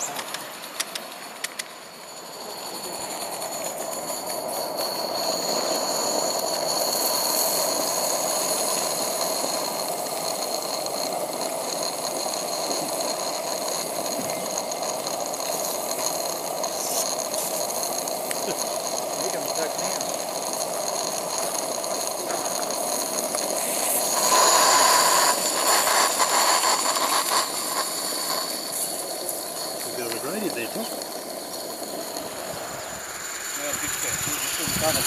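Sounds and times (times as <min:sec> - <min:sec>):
model steam locomotive running: 0:00.0 - 0:35.0.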